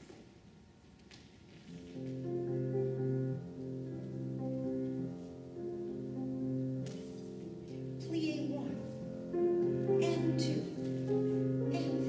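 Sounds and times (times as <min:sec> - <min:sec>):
slow instrumental music: 0:01.5 - 0:12.0.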